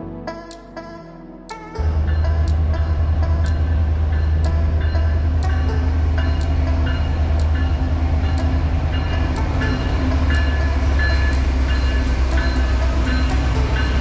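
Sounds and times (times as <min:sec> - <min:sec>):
train rumbling by: 0:01.8 - 0:14.0
train wheel clicks: 0:01.8 - 0:14.0.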